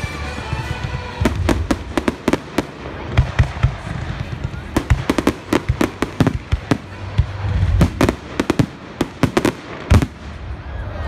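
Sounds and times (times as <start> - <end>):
firework bangs: 0.4 - 10.6.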